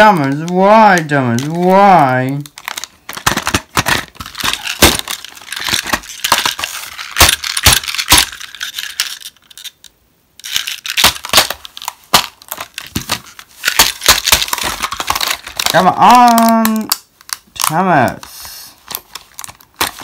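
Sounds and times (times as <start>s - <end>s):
plastic packaging crackling: 0.0s - 18.2s, 18.8s - 20.0s.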